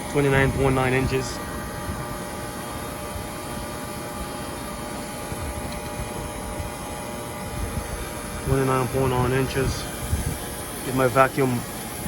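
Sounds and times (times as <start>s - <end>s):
vacuum pump running: 0.0s - 12.0s.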